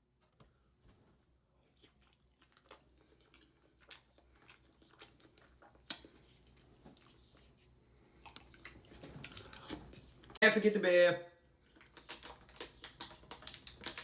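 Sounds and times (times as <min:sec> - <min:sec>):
faint chewing: 0:01.5 - 0:10.4, 0:11.5 - 0:14.0.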